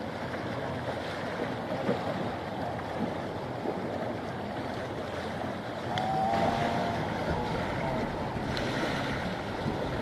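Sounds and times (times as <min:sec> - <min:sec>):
sea waves: 0:00.0 - 0:10.0
wind: 0:00.0 - 0:10.0.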